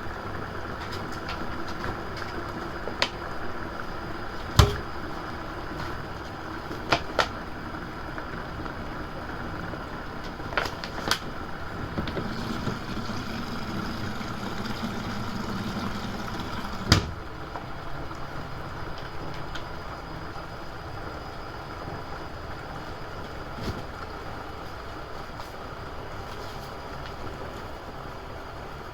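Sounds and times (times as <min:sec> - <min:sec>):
washing machine humming: 0:00.0 - 0:28.9.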